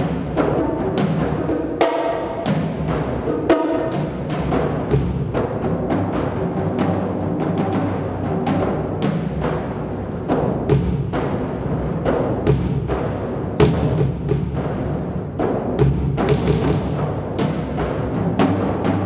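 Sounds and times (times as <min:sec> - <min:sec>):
bass drum and toms playing: 0:00.0 - 0:19.0.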